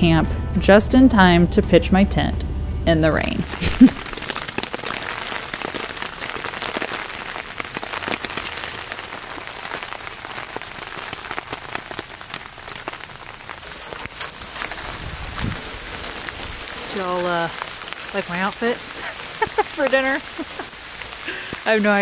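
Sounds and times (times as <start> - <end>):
rain on tent fly: 3.4 - 22.0.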